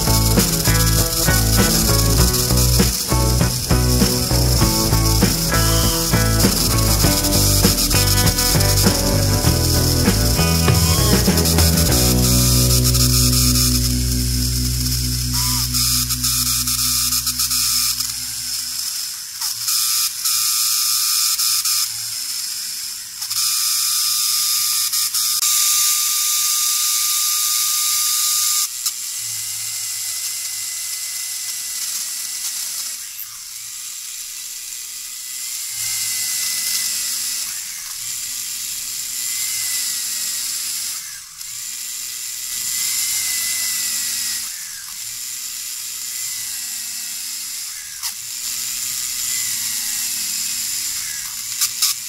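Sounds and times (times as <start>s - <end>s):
small motor drill whining: 0.0s - 52.0s.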